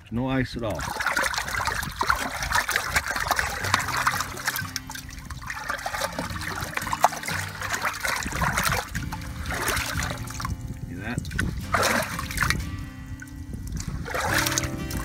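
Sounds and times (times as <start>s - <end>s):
water trickling: 0.6s - 15.0s
hand splashing in water: 0.8s - 10.6s, 11.2s - 12.6s, 13.6s - 15.0s.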